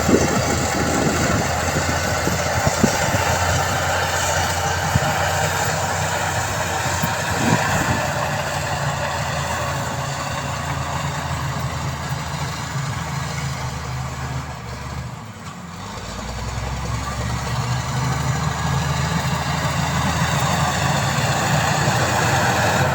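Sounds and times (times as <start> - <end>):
diesel engine of heavy machinery: 0.0 - 22.9.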